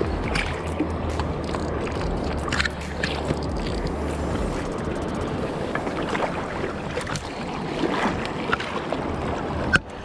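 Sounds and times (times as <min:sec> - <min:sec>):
small water splashes: 0:00.0 - 0:04.1, 0:05.6 - 0:10.0
low wind rumble: 0:00.0 - 0:10.0
river water rushing and lapping: 0:00.0 - 0:10.0.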